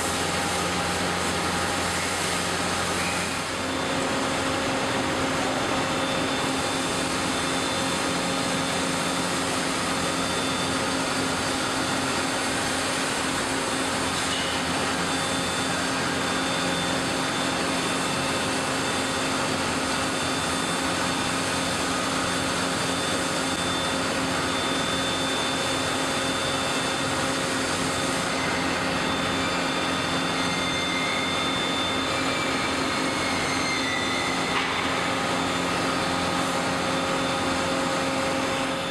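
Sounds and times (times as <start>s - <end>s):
industrial machine humming: 0.0s - 38.9s.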